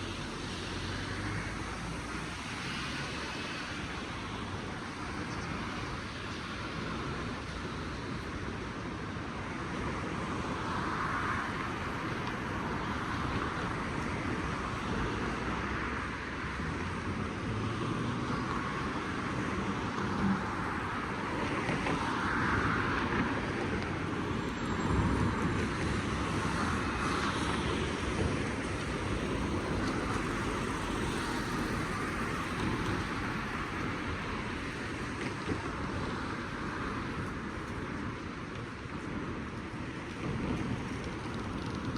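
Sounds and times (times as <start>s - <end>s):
cars passing: 0.0s - 41.9s
traffic rumble: 0.0s - 41.9s.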